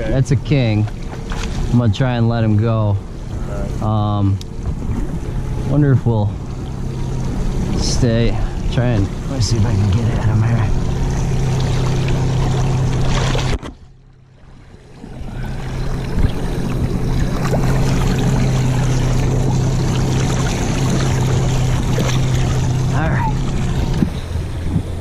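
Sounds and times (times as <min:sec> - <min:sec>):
boat motor humming: 0:00.0 - 0:25.0
water splashing on hull: 0:00.0 - 0:25.0.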